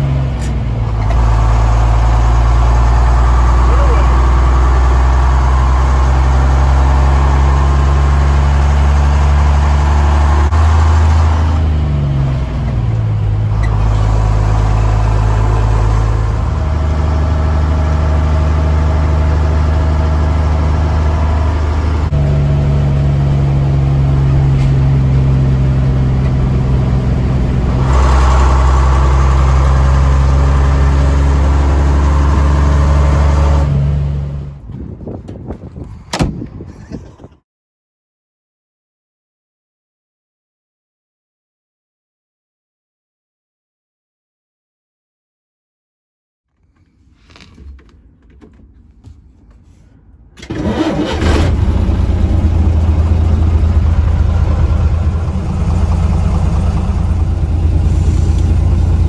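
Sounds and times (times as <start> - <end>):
diesel engine from inside cab: 0.0 - 37.4, 46.5 - 59.0.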